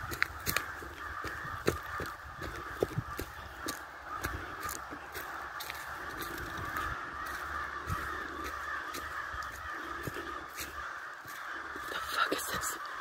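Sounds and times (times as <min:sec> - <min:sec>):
crows cawing: 0:00.0 - 0:13.0.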